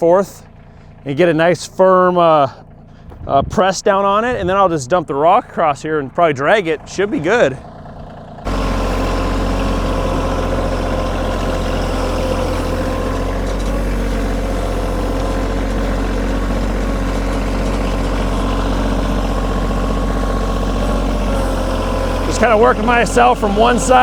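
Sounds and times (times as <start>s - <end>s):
tractor diesel engine running: 0.0s - 3.1s, 3.9s - 24.0s.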